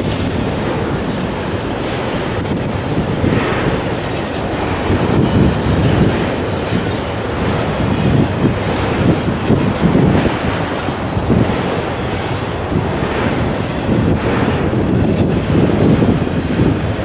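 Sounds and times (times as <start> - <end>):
steel wheels on rail: 0.0 - 17.0
train cars clattering and rattling: 0.0 - 17.0.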